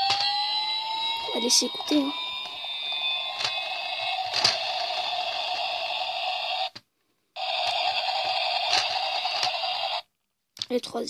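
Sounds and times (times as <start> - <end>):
toy electronic sound effect: 0.0 - 6.8, 7.4 - 10.1.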